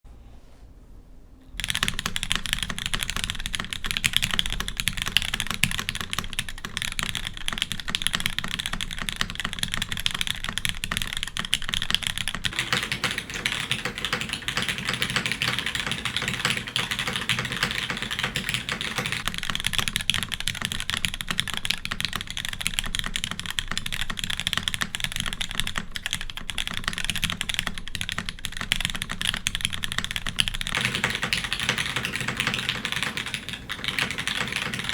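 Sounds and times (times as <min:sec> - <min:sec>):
mechanical keyboard key clacks: 0:01.6 - 0:34.9.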